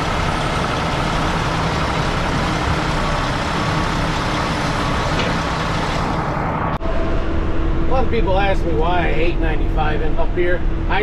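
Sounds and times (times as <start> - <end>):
heavy diesel engines running: 0.0 - 11.0.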